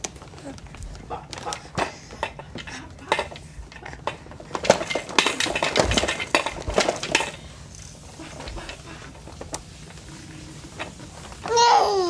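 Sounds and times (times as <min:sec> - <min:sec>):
plastic toys clacking and rattling: 0:00.0 - 0:12.0.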